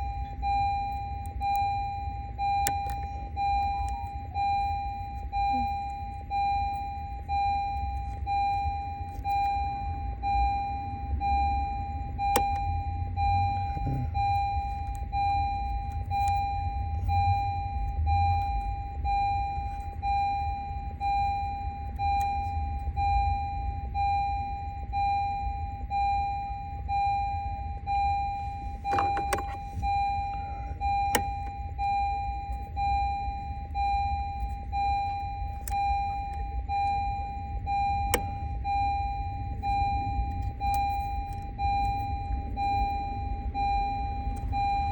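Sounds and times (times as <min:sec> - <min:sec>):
car warning chime beeping: 0:00.0 - 0:44.9.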